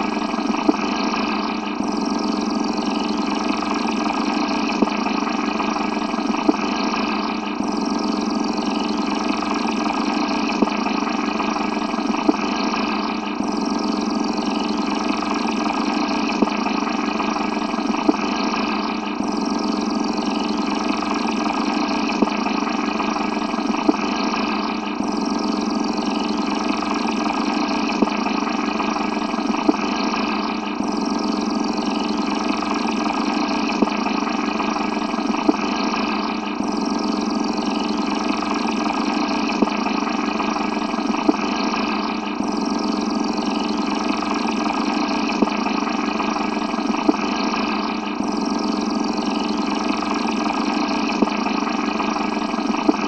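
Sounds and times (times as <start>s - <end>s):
rumbling space ambience drone: 0.0s - 53.0s.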